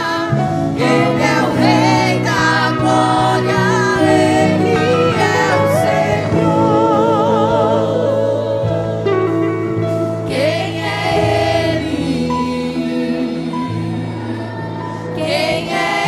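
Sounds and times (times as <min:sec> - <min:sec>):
women's vocal group singing: 0:00.0 - 0:09.4, 0:10.2 - 0:16.0.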